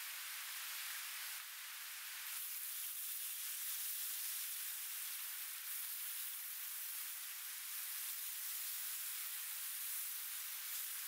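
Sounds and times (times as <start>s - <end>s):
meat sizzling in a grill pan: 0.0s - 11.0s.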